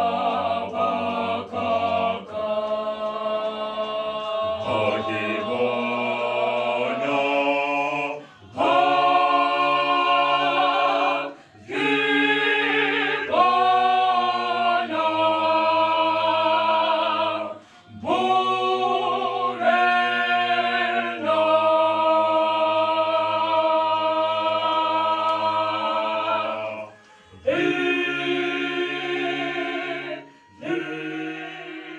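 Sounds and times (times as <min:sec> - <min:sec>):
gospel group singing in harmony: 0:00.0 - 0:31.9.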